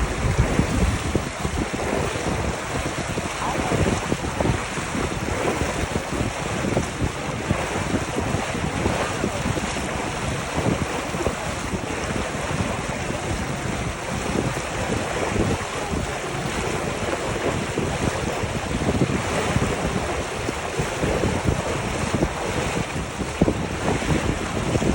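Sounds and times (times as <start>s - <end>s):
water rushing: 0.0s - 24.9s
wind buffeting microphone: 0.0s - 24.9s.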